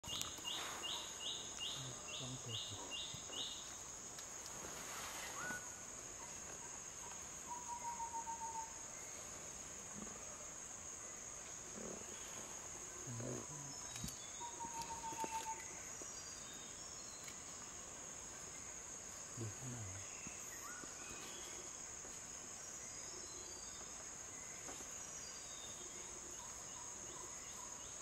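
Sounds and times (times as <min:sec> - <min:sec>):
forest insects droning: 0:00.0 - 0:28.0.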